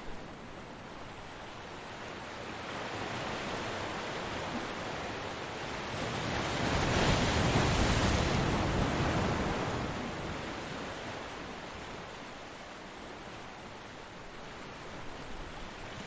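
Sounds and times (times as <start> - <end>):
ocean wave on a beach: 0.0 - 16.0.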